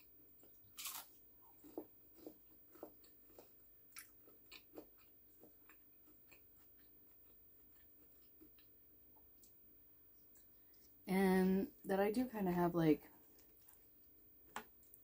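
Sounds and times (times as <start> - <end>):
chewing crunchy fried food: 0.0 - 11.1, 13.1 - 15.0.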